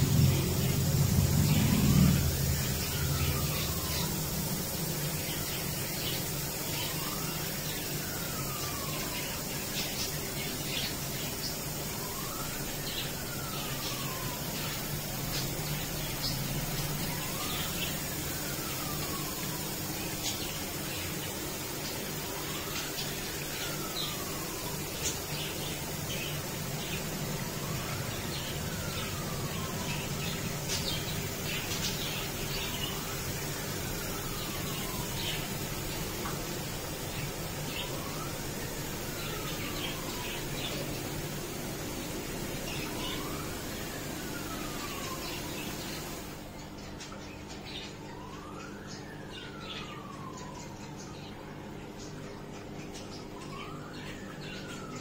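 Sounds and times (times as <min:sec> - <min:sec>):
steady low hum: 0:00.0 - 0:47.1
running water: 0:00.0 - 0:47.2
siren wailing: 0:00.0 - 0:55.0
small birds chirping: 0:00.0 - 0:55.0.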